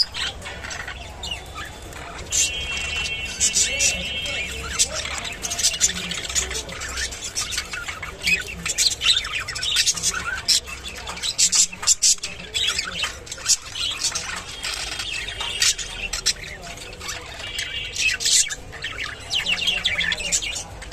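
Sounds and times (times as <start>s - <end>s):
budgerigars chirping and chattering: 0.0s - 20.9s.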